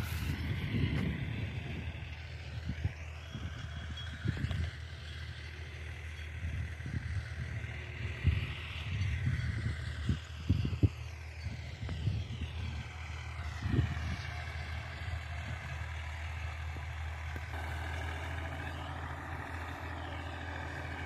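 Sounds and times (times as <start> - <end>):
distant tractor engine hum: 0.0 - 21.0.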